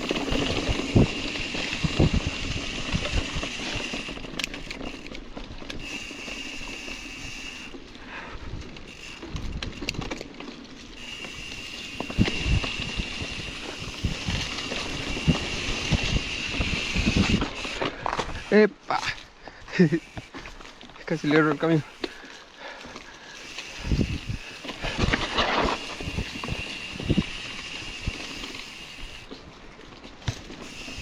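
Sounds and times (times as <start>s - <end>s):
bike knocking and rattling: 0.0s - 31.0s
bike tyre noise on dirt: 0.0s - 31.0s.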